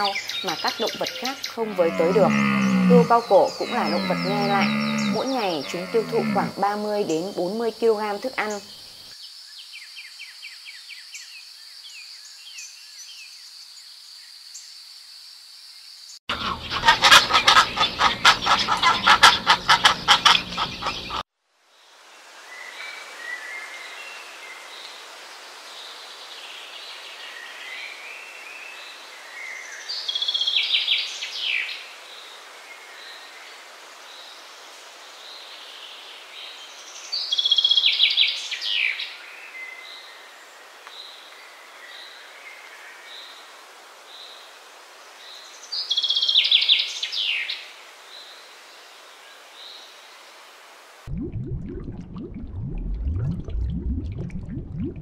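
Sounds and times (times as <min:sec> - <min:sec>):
outdoor background hiss: 0:00.0 - 0:51.1.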